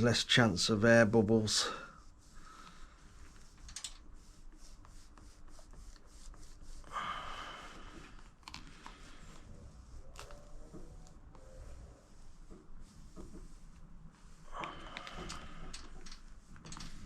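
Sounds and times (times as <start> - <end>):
cloth rubbing on plastic: 0.7 - 7.0, 7.6 - 17.0.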